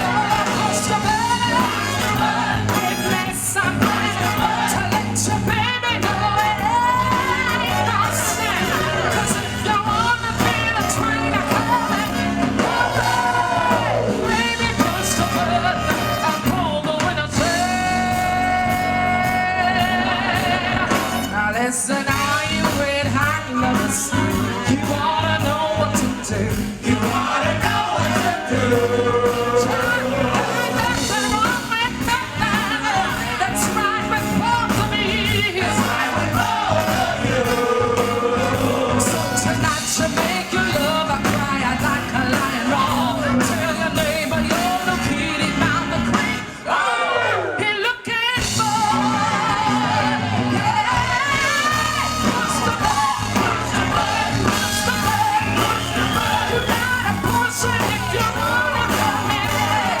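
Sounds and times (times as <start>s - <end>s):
band playing: 0.0s - 60.0s
singers wordless vocal lines: 0.0s - 60.0s.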